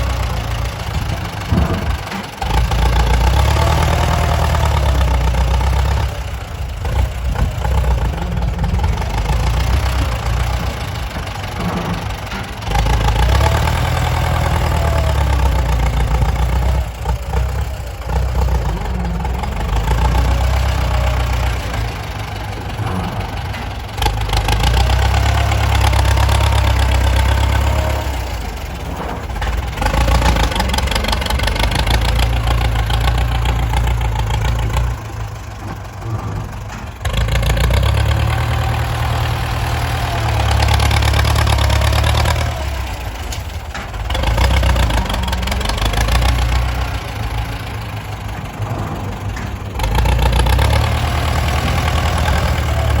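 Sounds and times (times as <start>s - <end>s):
diesel engines revving under load: 0.0s - 53.0s.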